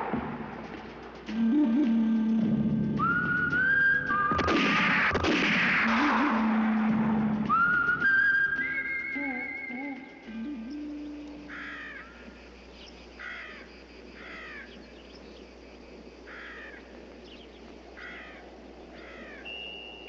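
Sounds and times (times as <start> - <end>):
background hiss: 0.0 - 20.0
bird calling: 0.8 - 20.0.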